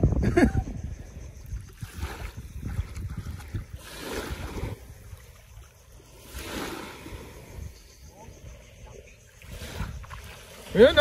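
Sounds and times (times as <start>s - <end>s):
wind buffeting microphone: 0.0s - 11.0s
waves washing on shore: 1.7s - 11.0s.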